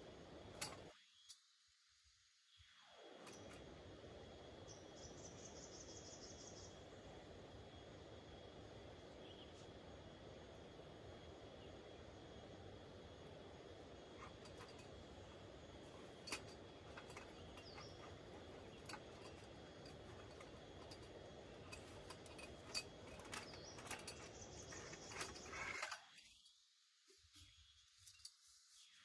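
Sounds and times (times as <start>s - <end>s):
low steady hiss: 0.0s - 29.0s.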